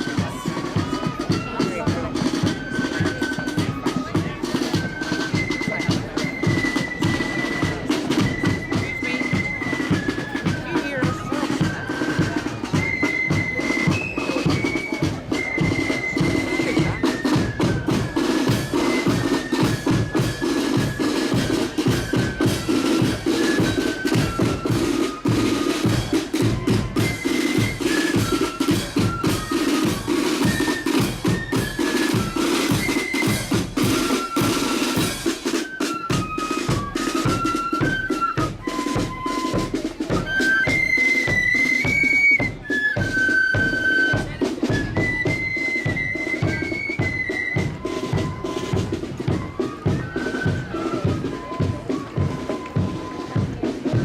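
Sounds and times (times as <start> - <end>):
fast snare drumming: 0.0 - 50.9
flute melody: 0.0 - 54.0.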